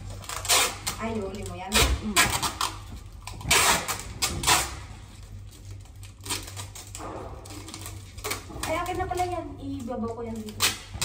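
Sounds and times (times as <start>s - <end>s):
objects rustling and clattering: 0.0s - 11.0s.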